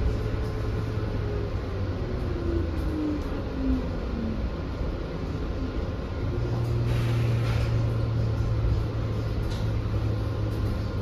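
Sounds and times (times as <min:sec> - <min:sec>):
bus road rumble: 0:00.0 - 0:11.0
low hum: 0:00.0 - 0:11.0.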